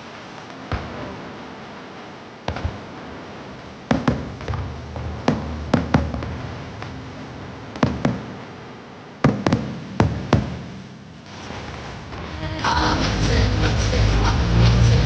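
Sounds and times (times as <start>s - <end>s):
fireworks bursting with echo: 0.0s - 14.1s.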